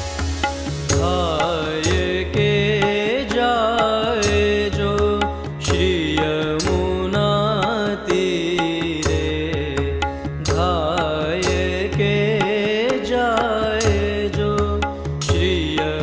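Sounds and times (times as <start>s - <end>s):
tabla beat: 0.0s - 16.0s.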